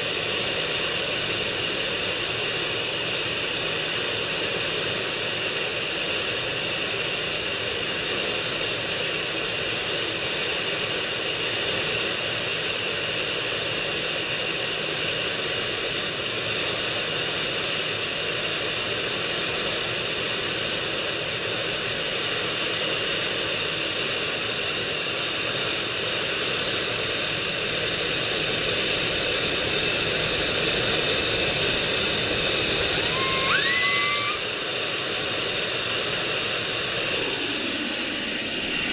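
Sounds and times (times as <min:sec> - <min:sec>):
jet engine whine: 0:00.0 - 0:38.9.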